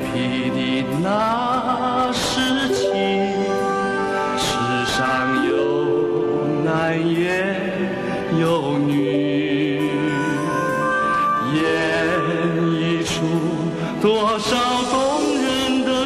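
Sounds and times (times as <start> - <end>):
instrumental accompaniment: 0.0 - 16.0
slow song with held sung notes: 0.0 - 16.0.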